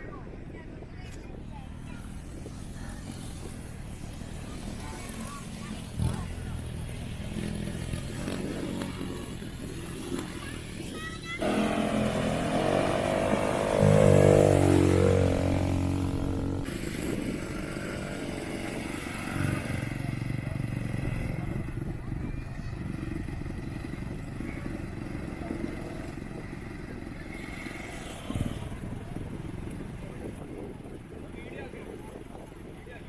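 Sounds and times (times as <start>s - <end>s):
atv engine revving: 2.3s - 31.1s.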